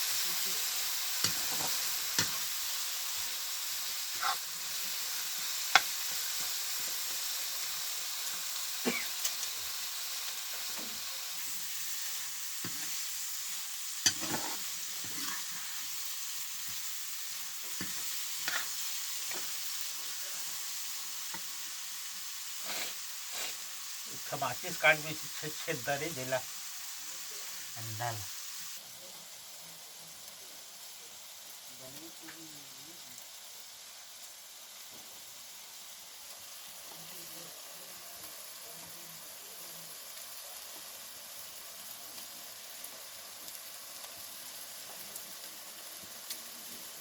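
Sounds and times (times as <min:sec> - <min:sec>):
food sizzling in a pan: 0:00.0 - 0:47.0.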